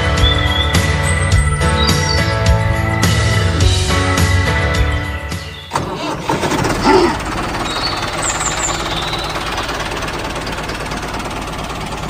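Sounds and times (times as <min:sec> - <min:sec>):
tractor engine knocking rattle: 0:00.0 - 0:04.3, 0:05.3 - 0:12.0.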